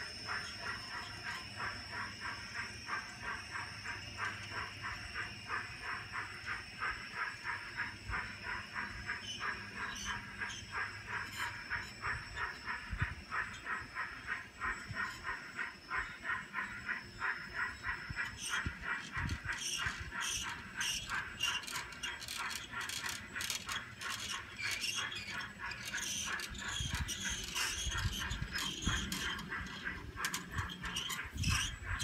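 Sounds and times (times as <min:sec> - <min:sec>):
sharp high-pitched clicking: 0:00.0 - 0:32.0
train wheels clicking on track: 0:00.0 - 0:32.0.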